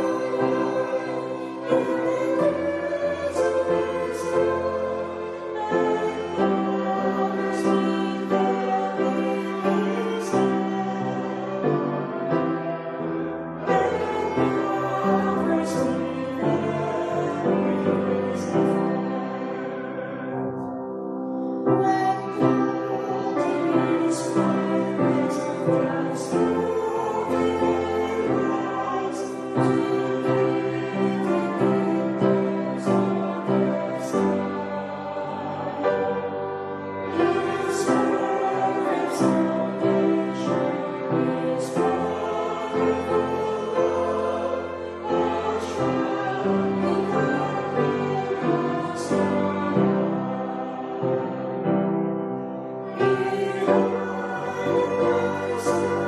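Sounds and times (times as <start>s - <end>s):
choir singing held notes: 0.0s - 56.0s
slow sung music: 0.0s - 56.0s.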